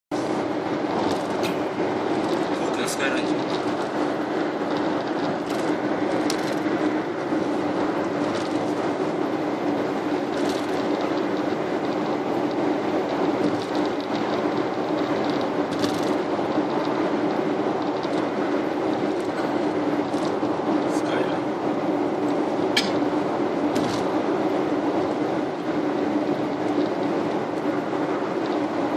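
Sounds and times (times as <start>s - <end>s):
car cabin road drone: 0.1s - 28.9s.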